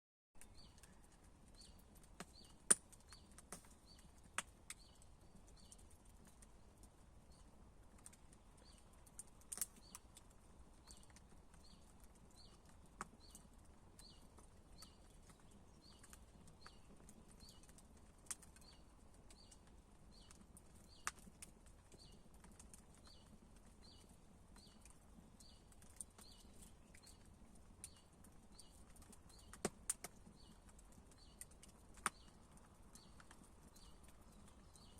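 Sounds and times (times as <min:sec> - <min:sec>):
campfire crackling and popping: 0:00.4 - 0:34.9.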